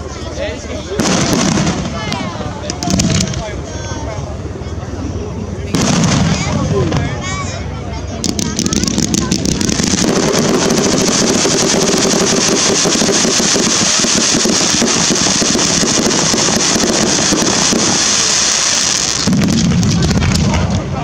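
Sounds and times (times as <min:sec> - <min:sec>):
fireworks crackling: 0:00.9 - 0:03.6, 0:05.7 - 0:07.4, 0:08.2 - 0:21.0.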